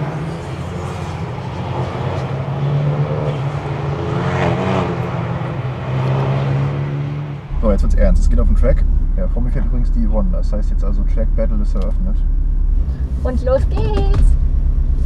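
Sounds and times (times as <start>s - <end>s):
car engine running: 0.0s - 15.0s
road and tyre noise: 0.0s - 15.0s.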